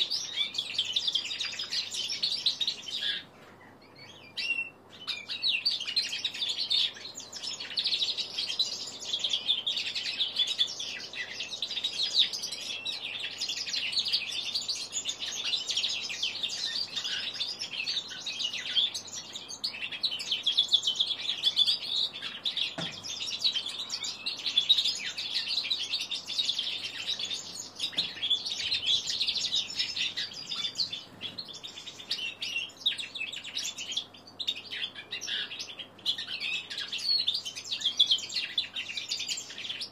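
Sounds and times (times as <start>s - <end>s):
bird twittering and chattering: 0.0s - 39.9s.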